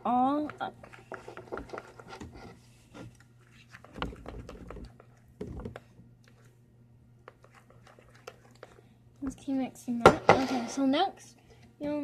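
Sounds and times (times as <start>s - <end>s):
utensil stirring slime in bowl: 0.0s - 11.0s.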